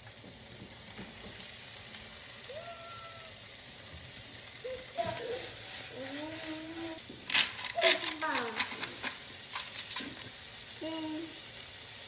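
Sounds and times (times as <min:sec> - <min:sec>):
potatoes sizzling in a pan: 0:00.0 - 0:12.0.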